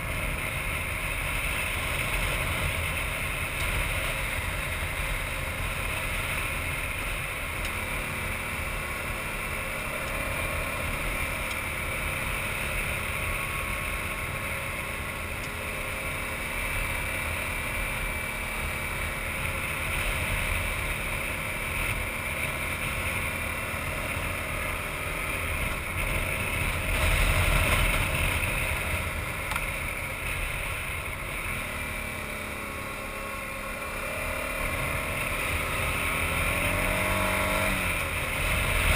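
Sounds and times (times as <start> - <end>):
motorcycle engine running: 0.0 - 38.9
wind: 0.0 - 38.9.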